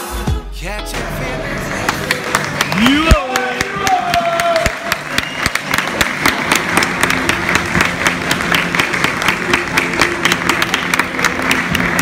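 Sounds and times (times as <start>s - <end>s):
crowd clapping: 1.7s - 12.0s.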